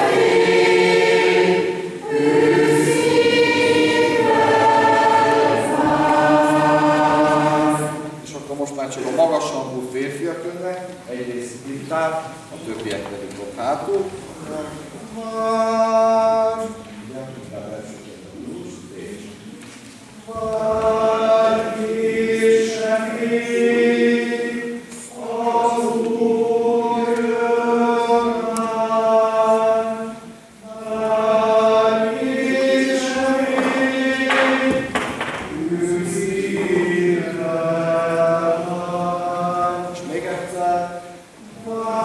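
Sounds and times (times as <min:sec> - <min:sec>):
mixed choir singing a hymn: 0:00.0 - 0:42.0.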